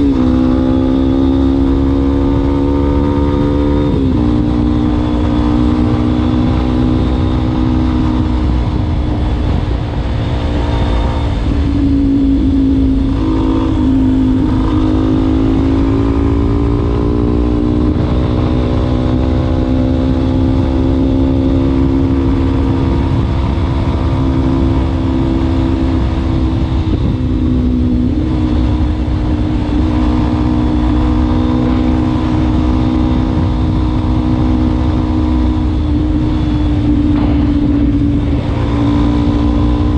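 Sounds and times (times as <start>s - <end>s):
heavy low rumble: 0.0s - 39.9s
motorcycle engine running: 0.0s - 39.9s.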